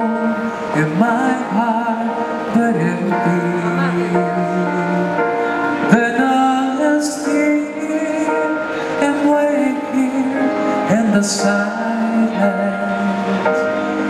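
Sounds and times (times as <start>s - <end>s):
instrumental accompaniment: 0.0s - 14.0s
man singing into a microphone: 0.0s - 14.0s.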